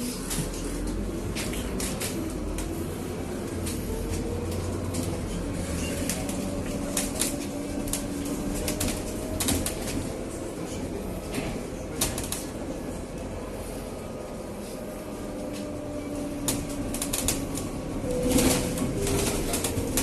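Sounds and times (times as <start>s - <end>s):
bus drivetrain hum: 0.0s - 20.0s
clicks and rattles inside bus: 0.0s - 20.0s.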